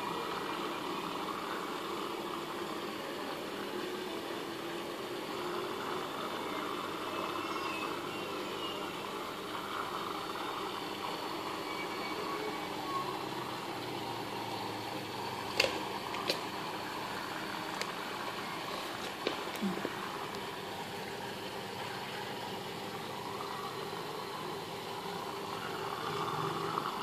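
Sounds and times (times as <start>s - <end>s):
aquarium pump humming: 0.0s - 27.0s.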